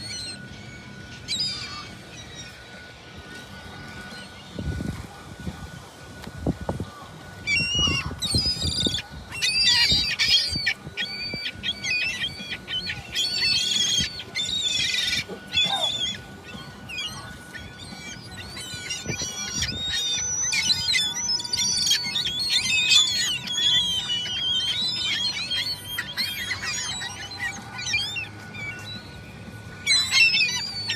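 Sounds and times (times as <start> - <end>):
seagulls squawking: 0.0 - 30.9.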